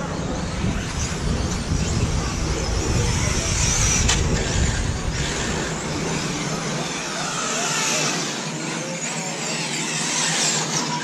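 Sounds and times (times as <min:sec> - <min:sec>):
rc truck engines whining: 0:00.0 - 0:11.0.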